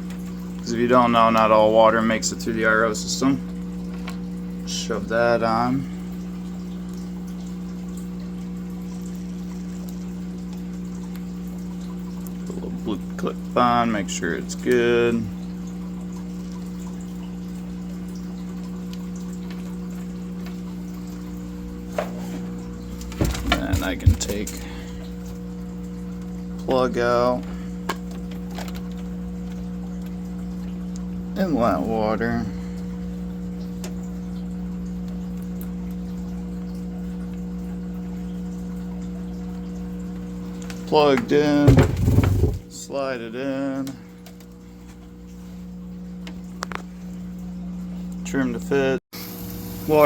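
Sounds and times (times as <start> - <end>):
low electric hum: 0.0 - 50.0
water trickling: 0.0 - 50.0.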